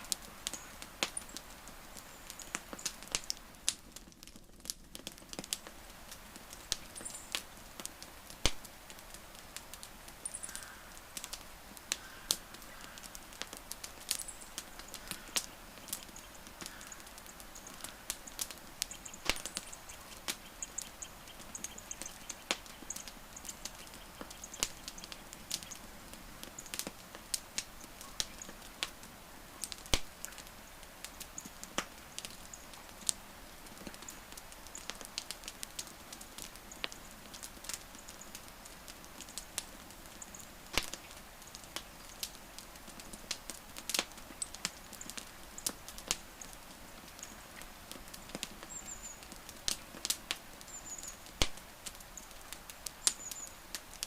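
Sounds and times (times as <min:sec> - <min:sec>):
fire pops and snaps: 0:00.0 - 0:54.0
wood campfire crackling: 0:00.0 - 0:54.0.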